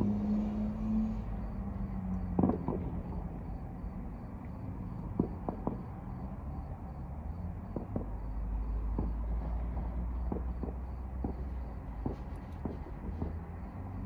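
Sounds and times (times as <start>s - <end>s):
cricket chirping: 0.0s - 14.0s
low steady rumble: 0.0s - 14.0s
distant fireworks popping: 2.2s - 14.0s.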